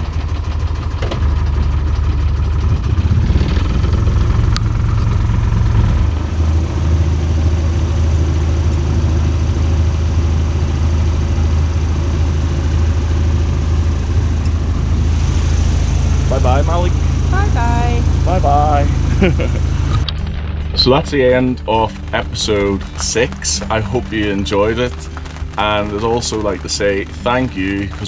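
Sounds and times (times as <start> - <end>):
boat diesel engine droning: 0.0 - 28.0.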